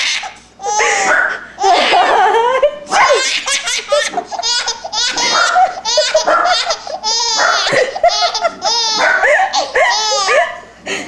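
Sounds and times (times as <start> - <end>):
baby laughing hysterically: 0.0 - 10.8.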